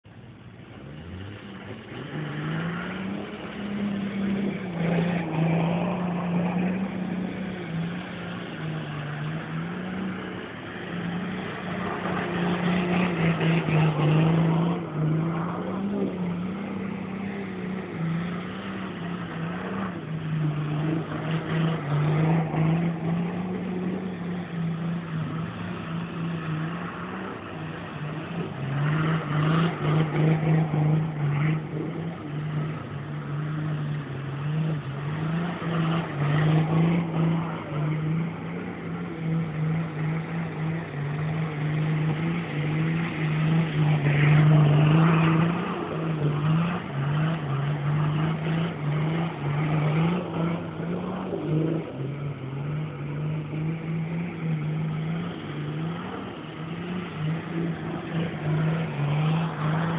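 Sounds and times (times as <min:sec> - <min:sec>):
tyres churning through muddy water: 0:00.6 - 0:59.9
engine revving: 0:00.7 - 0:59.9.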